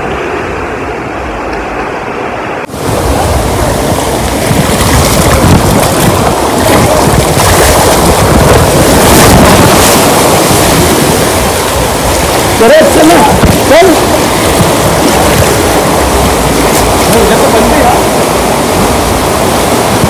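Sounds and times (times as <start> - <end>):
water rushing along a channel: 0.0 - 20.0
wind noise on microphone: 0.0 - 20.0.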